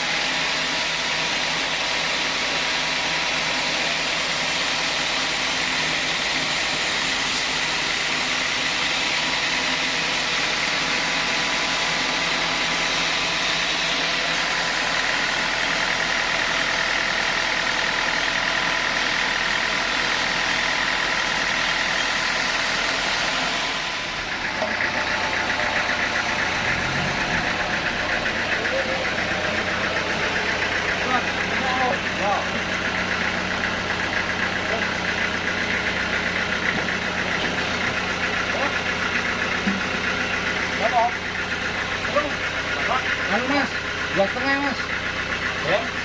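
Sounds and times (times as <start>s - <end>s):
sawmill machinery humming: 0.0s - 46.0s.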